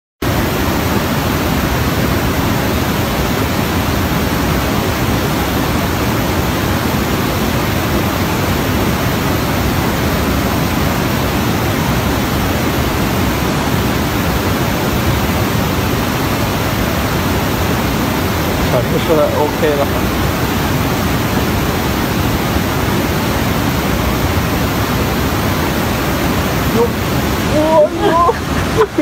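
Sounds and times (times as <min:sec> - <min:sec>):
steady rushing noise: 0:00.2 - 0:29.0.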